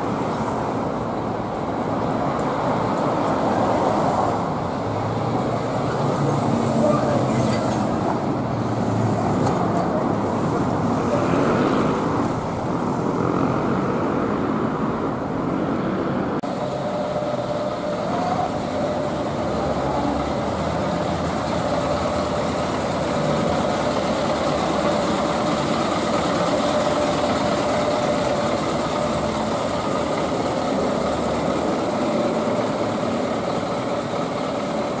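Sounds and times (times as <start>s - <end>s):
diesel engine running: 0.0s - 35.0s
street traffic noise: 0.0s - 35.0s
truck driving past: 2.7s - 35.0s.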